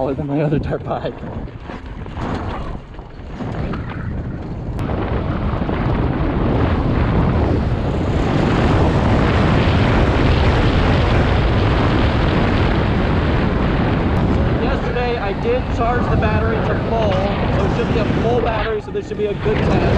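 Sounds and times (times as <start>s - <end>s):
wind rushing over microphone: 0.0s - 19.9s.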